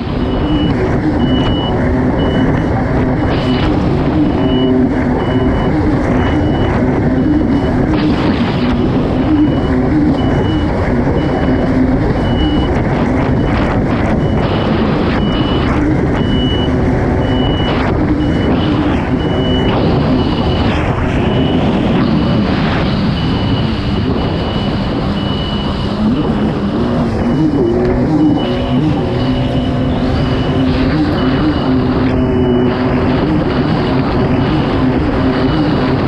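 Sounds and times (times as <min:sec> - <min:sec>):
jet ski engine running hard: 0:00.0 - 0:36.0
wind and water rushing: 0:00.0 - 0:36.0
short high-pitched beep: 0:00.1 - 0:08.0, 0:09.2 - 0:26.0, 0:27.0 - 0:33.8.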